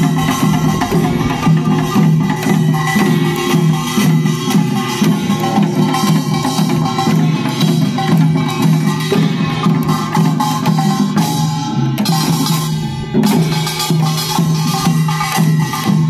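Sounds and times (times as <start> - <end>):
rhythmic drumming and percussion: 0.0 - 16.0
steady pitched band: 0.0 - 16.0.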